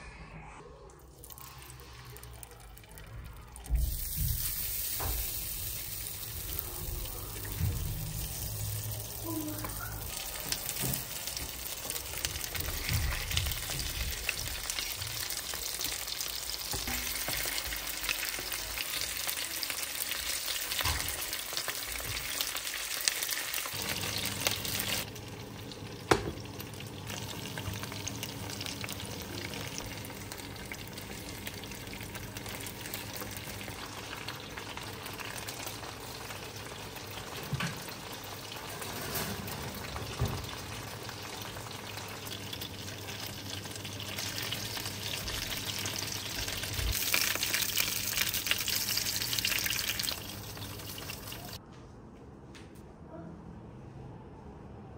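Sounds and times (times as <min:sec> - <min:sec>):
chicken frying in oil: 0:01.2 - 0:51.6.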